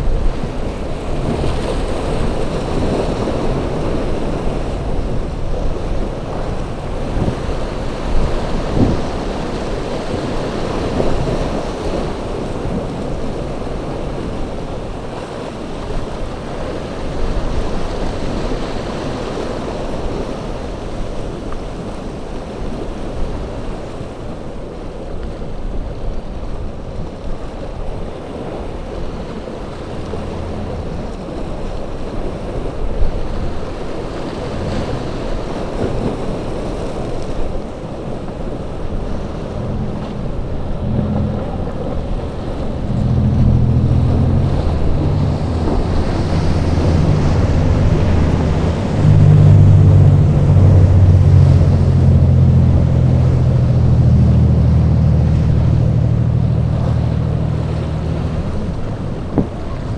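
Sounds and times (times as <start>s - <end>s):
rough surf breaking: 0.0s - 59.9s
wind buffeting microphone: 0.0s - 59.9s.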